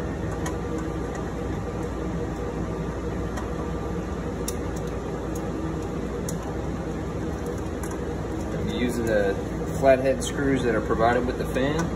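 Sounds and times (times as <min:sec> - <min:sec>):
ventilation and cooling fans humming: 0:00.0 - 0:11.9.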